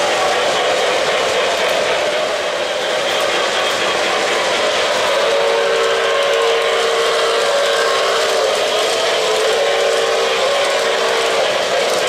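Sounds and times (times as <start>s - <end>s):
model train wheels rumbling and rattling: 0.0s - 12.0s
deep chord train whistle: 2.2s - 12.0s.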